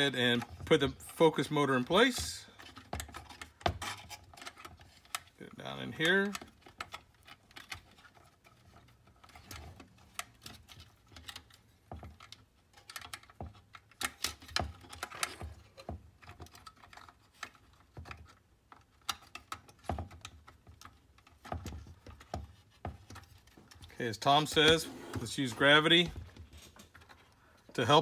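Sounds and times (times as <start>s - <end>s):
light clicks and taps of metal parts: 0.0s - 24.7s.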